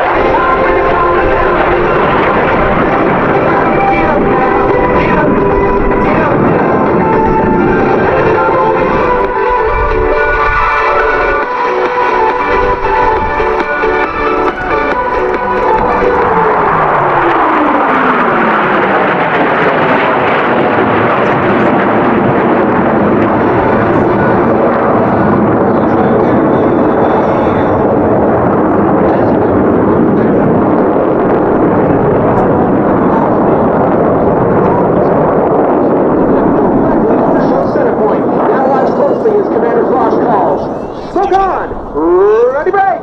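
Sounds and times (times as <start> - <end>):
jet aircraft passing low: 0.0 - 43.0
jet engine roar: 0.0 - 43.0.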